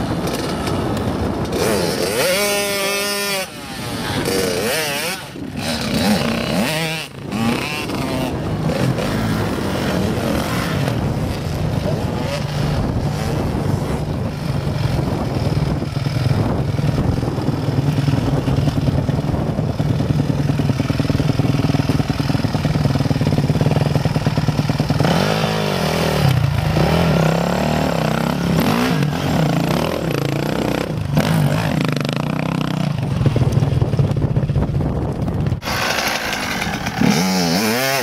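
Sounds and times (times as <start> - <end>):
dirt bike engine revving: 0.0 - 34.0, 35.6 - 38.0.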